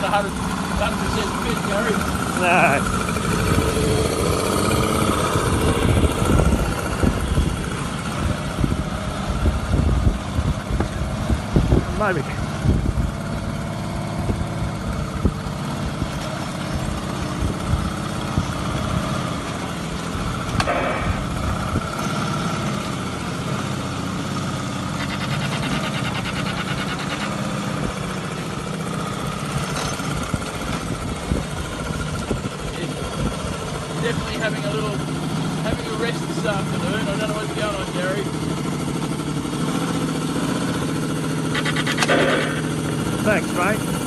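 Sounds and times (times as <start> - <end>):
model engine idling: 0.0 - 44.0.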